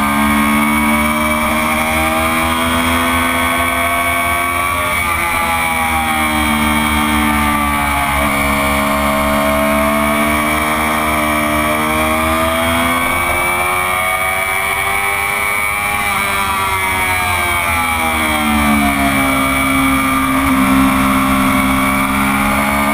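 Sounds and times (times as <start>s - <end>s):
motorcycle engine at speed: 0.0s - 22.9s.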